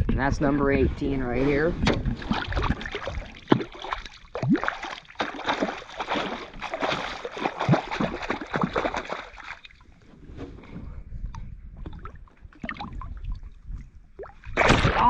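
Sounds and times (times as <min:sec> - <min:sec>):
water splashing and gurgling: 0:00.8 - 0:10.0, 0:11.8 - 0:15.0.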